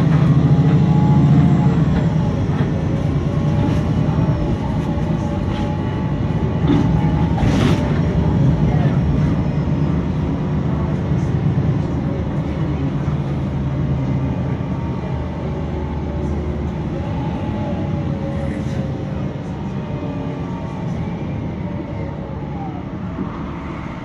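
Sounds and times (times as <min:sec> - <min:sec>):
bus engine running: 0:00.0 - 0:24.0
road noise: 0:00.0 - 0:24.0.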